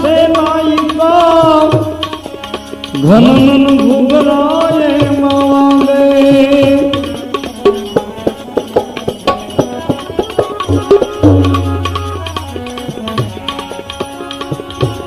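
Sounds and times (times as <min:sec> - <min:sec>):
hand percussion: 0:00.0 - 0:15.0
tabla playing quick rhythm: 0:00.0 - 0:15.0.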